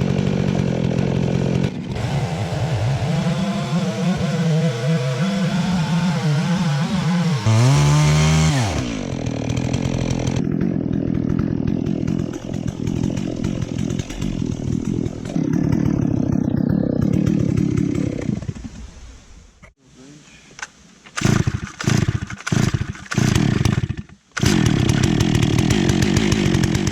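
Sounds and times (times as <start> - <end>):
chainsaw cutting a log: 0.0 - 18.7, 21.2 - 26.9.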